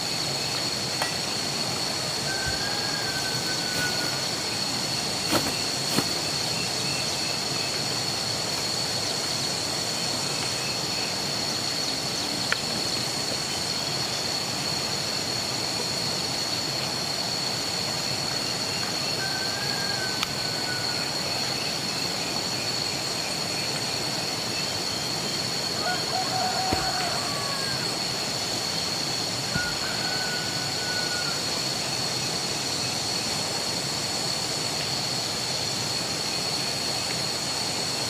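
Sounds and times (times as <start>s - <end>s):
constant hiss: 0.0s - 38.0s.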